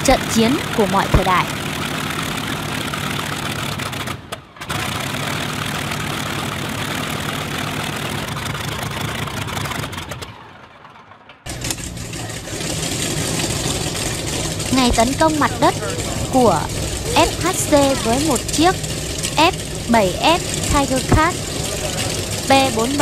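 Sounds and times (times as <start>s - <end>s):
another radial aircraft engine running: 0.0s - 23.0s
radial aircraft engine running: 0.0s - 23.0s.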